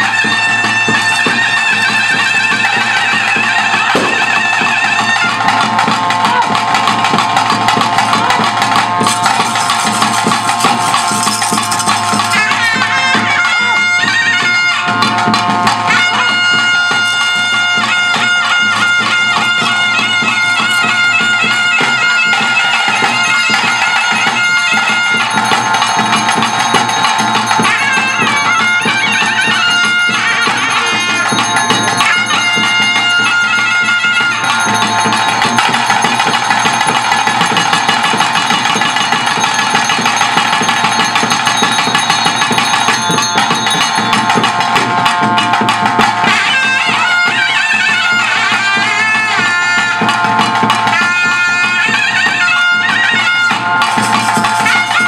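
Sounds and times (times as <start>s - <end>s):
drumming: 0.0s - 55.0s
piping wind melody: 0.0s - 55.0s.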